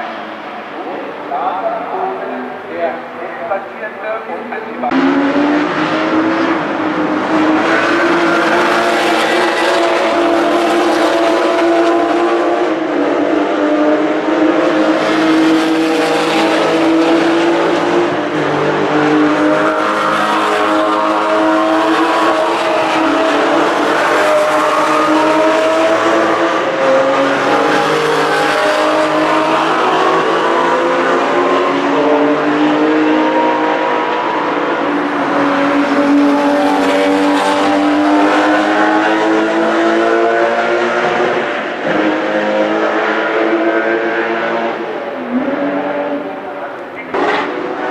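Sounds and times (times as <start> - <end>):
race car engines passing: 0.0 - 47.9.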